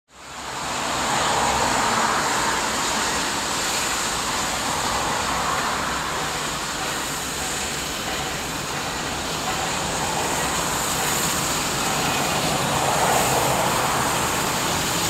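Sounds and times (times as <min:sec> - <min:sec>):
steam locomotive rushing rumble: 0:00.1 - 0:15.0
high hiss: 0:00.2 - 0:15.0.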